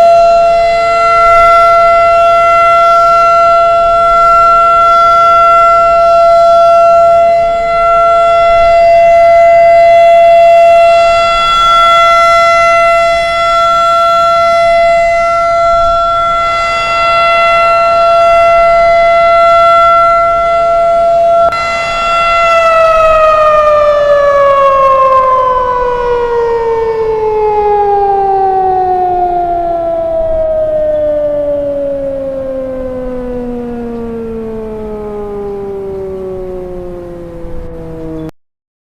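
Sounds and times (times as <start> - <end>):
warning siren steady tone: 0.0 - 38.4.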